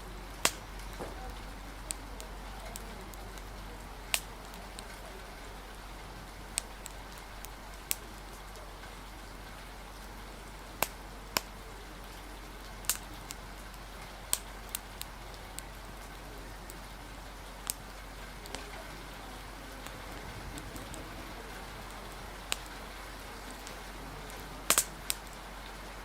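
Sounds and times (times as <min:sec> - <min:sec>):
fire crackling and popping: 0:00.0 - 0:26.0
rain hissing: 0:00.0 - 0:26.0.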